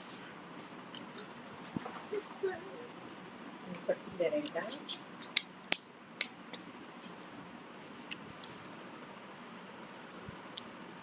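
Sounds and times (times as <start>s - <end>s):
low hiss of room noise: 0.0s - 11.0s.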